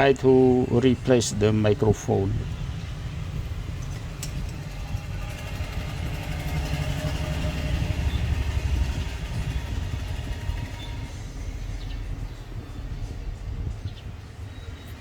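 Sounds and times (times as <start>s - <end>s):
faint steady tones: 0.0s - 15.0s
low rumble: 0.0s - 15.0s.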